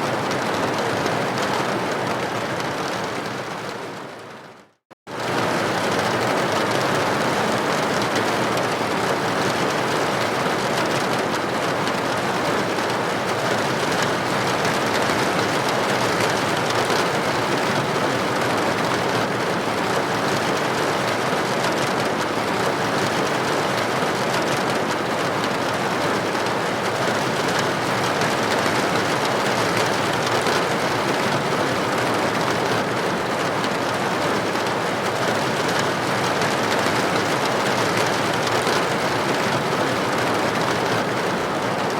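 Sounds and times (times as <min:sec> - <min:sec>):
rain on a window: 0:00.0 - 0:41.9.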